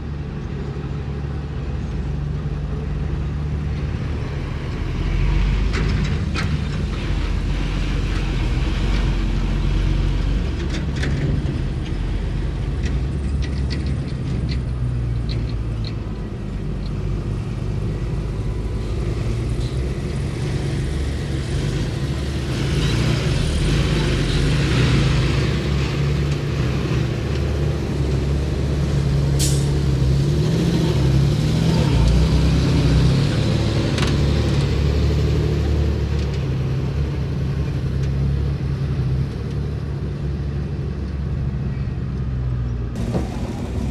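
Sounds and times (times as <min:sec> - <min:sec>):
heavy diesel machinery running: 0:00.0 - 0:41.4, 0:42.8 - 0:43.9.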